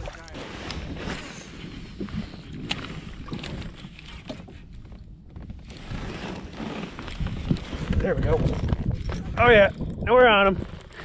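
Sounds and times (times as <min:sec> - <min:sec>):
water around kayak: 0:00.0 - 0:11.0
wind: 0:00.0 - 0:11.0.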